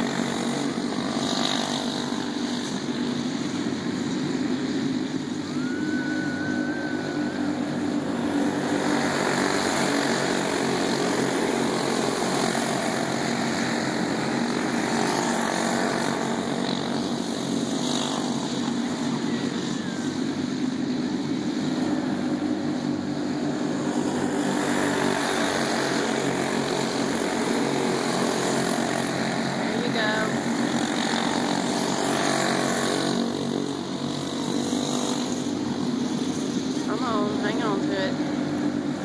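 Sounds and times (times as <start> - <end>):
go-kart engines buzzing: 0.0 - 39.0.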